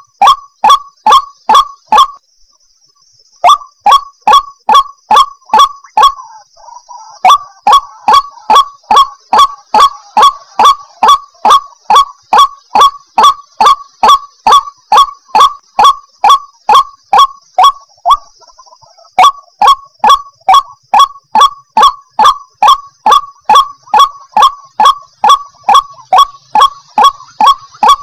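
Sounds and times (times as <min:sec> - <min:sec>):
waterhen calling: 0:00.0 - 0:02.2, 0:03.4 - 0:28.0.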